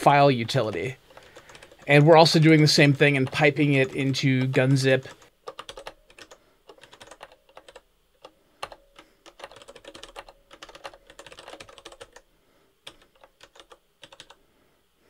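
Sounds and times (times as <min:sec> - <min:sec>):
typing on computer keyboard: 0:00.6 - 0:02.1, 0:03.2 - 0:12.2, 0:12.8 - 0:14.4.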